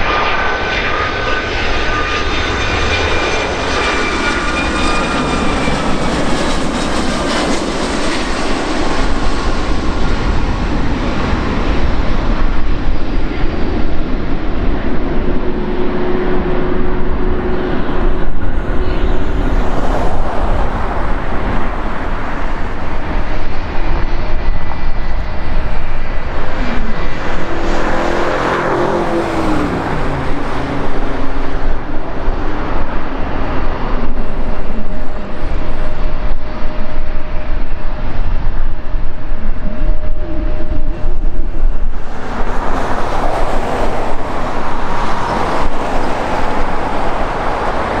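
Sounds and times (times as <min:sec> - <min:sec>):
falling jet engine whine: 0:00.0 - 0:48.0
jet engine rush: 0:00.0 - 0:48.0.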